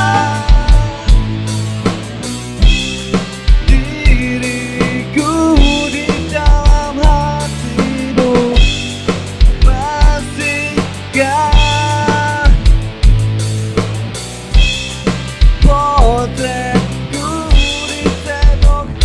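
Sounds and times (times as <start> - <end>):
bass guitar: 0.0 - 19.0
drum kit beat: 0.0 - 19.0
electric guitar melody: 0.0 - 19.0.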